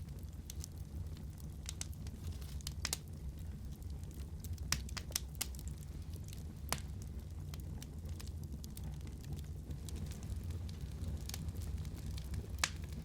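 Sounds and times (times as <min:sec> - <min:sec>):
burning logs crackling and popping: 0:00.0 - 0:13.0
fire flames rumbling: 0:00.0 - 0:13.0.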